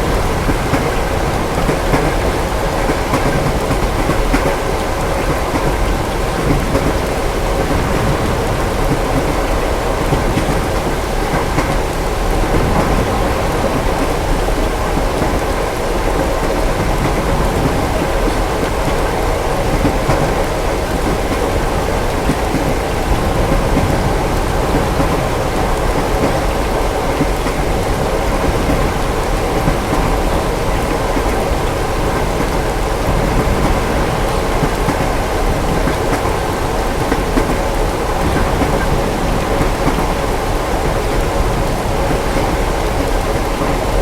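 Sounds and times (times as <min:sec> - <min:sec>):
distant thunder rumble: 0:00.0 - 0:44.0
steady rain: 0:00.0 - 0:44.0.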